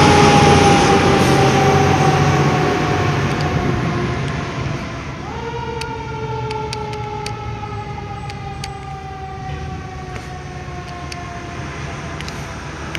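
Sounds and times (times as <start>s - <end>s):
fire truck siren wailing: 0.0s - 12.9s
traffic: 0.0s - 12.9s
truck rumble: 0.0s - 12.9s.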